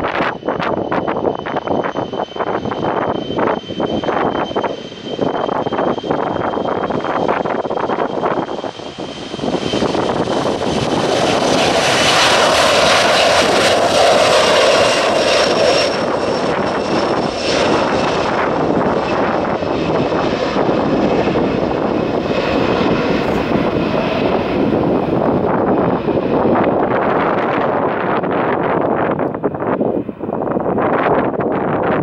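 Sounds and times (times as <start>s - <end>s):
jet engines spooling up: 0.0s - 32.0s.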